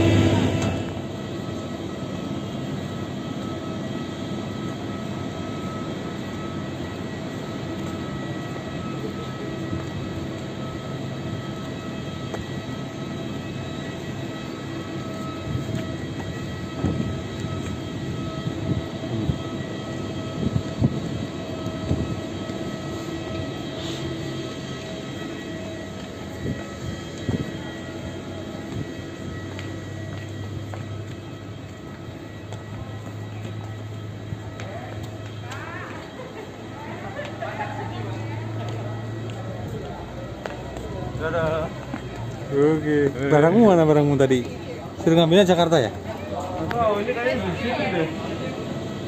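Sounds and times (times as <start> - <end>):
airport drone: 0.0 - 49.0
multi-tone whine: 0.0 - 49.0.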